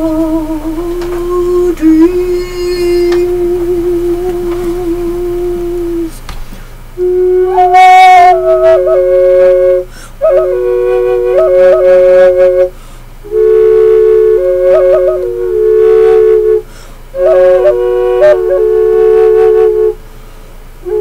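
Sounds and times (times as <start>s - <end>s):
steady drone note: 0.0s - 6.2s, 6.9s - 20.0s
wooden flute melody: 0.0s - 6.2s, 7.0s - 20.0s.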